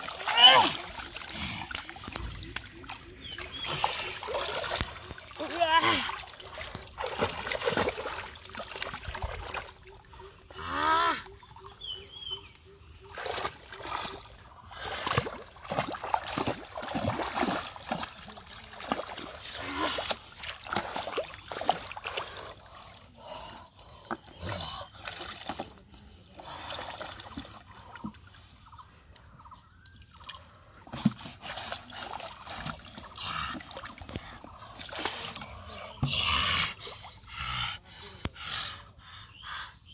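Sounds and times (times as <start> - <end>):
splashing in muddy water: 0.0 - 28.8, 29.8 - 38.9.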